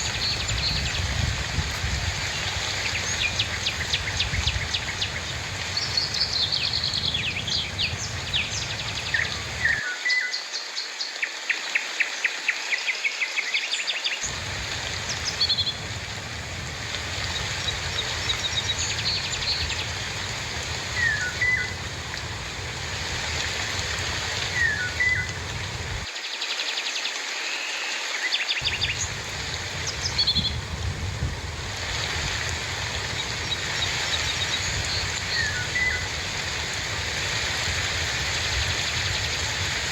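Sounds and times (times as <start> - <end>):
birds chirping: 0.0 - 9.8, 14.2 - 26.1, 28.6 - 39.9
steady rainfall: 0.0 - 39.9.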